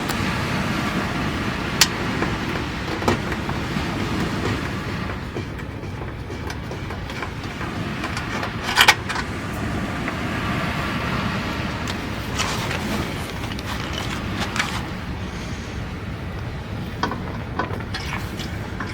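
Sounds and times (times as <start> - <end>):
campfire burning: 0.0 - 18.9.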